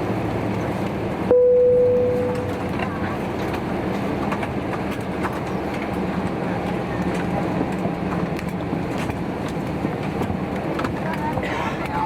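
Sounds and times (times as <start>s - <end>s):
aircraft cabin hum: 0.0s - 12.0s.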